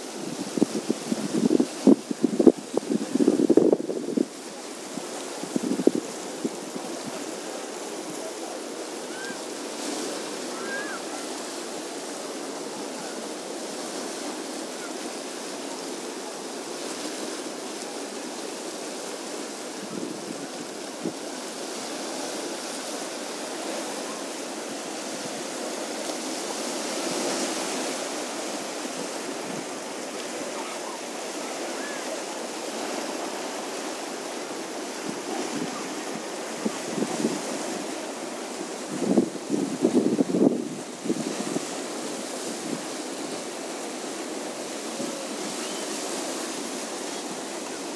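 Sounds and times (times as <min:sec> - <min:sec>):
waves washing over rocks: 0:00.0 - 0:47.9.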